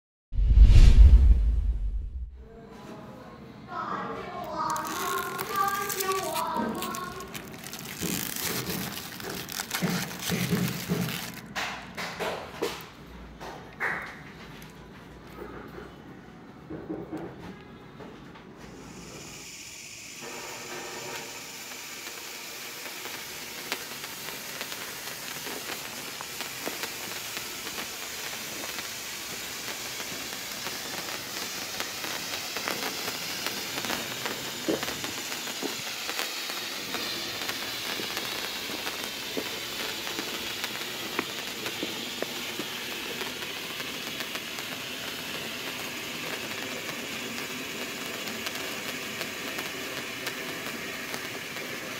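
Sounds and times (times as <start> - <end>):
flare burning with hiss: 3.7 - 12.9, 18.7 - 51.9.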